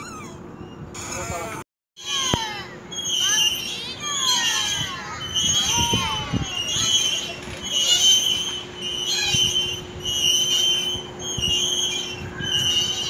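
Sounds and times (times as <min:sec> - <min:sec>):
swing chains squeaking: 0:00.0 - 0:13.0.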